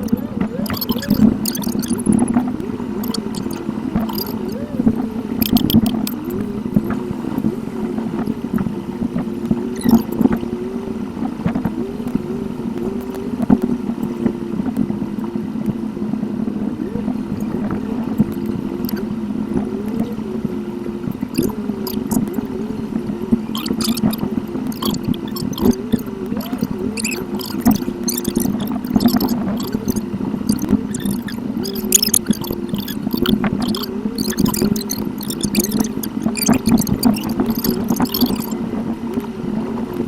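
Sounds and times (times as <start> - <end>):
sped-up engine and road hum: 0.0 - 40.0.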